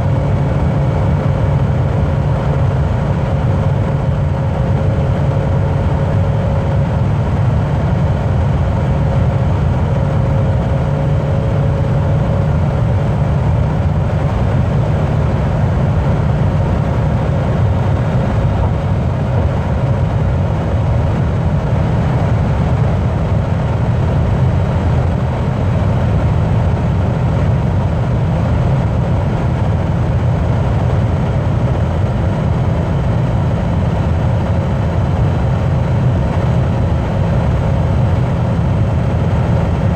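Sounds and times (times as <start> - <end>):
car road and engine drone: 0.0 - 39.9.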